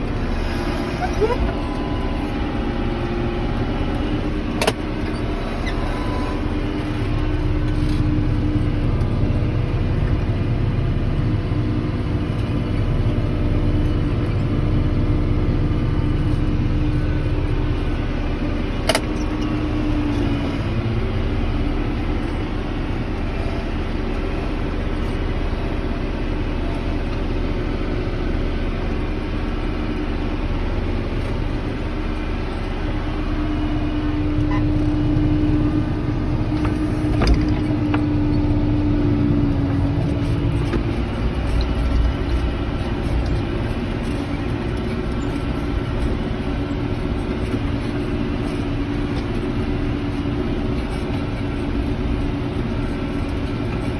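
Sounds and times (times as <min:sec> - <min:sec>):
tractor engine droning: 0:00.0 - 0:53.9
whine: 0:00.0 - 0:53.9.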